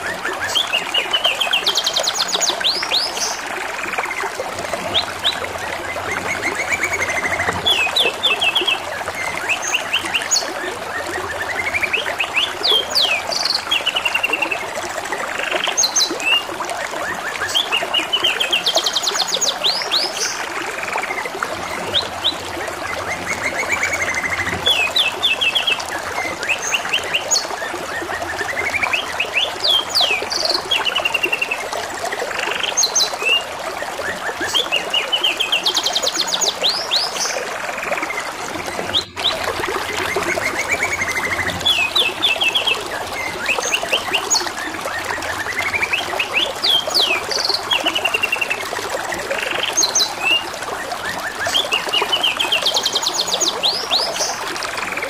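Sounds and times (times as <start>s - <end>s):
running water trickling: 0.0s - 55.0s.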